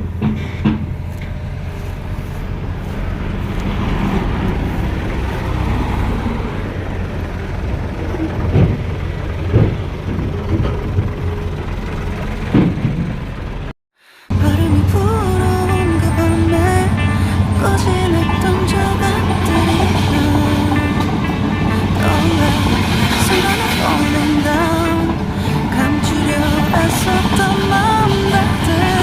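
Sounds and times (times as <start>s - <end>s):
heavy engine running: 0.0s - 13.7s, 14.3s - 29.0s.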